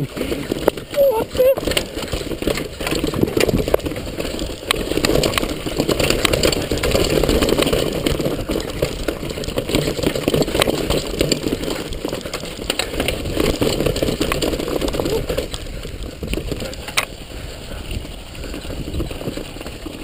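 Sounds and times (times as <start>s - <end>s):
bike chain and suspension clattering: 0.0s - 20.0s
bike tyres crunching over stones: 0.0s - 20.0s.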